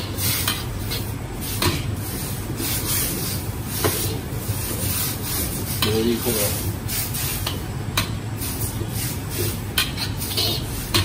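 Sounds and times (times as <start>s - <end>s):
metal spatula scraping wok: 0.0s - 7.6s, 8.4s - 11.0s.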